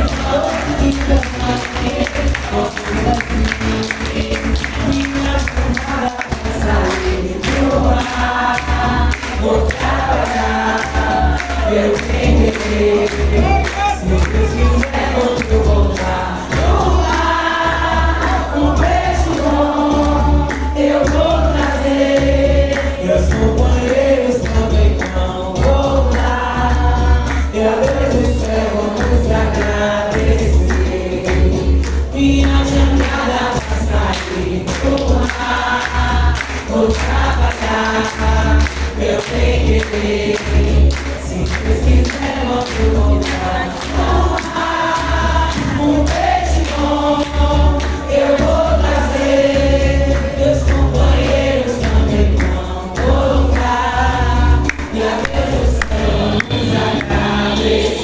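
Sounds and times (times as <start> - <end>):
drums playing: 0.0 - 58.0
group of voices singing: 0.0 - 58.0.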